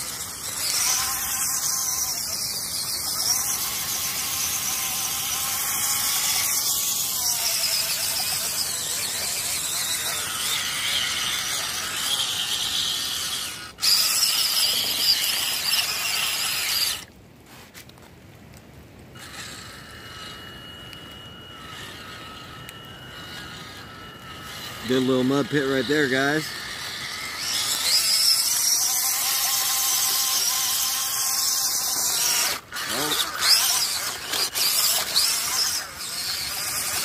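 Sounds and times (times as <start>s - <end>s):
toy truck electric motor whine: 0.0s - 17.8s, 19.1s - 37.0s.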